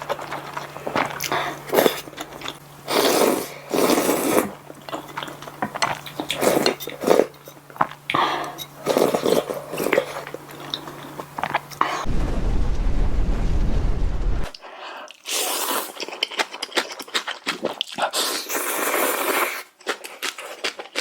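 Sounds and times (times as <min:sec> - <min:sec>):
wet chewing of noodles: 0:00.0 - 0:12.1, 0:14.6 - 0:21.0.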